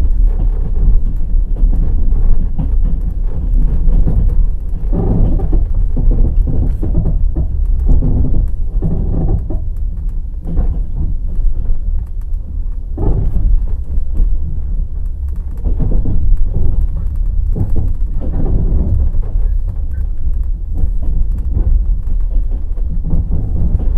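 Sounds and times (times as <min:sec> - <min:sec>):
deep train rumble: 0:00.0 - 0:23.9
train wheels clattering over rail joints: 0:00.0 - 0:23.9.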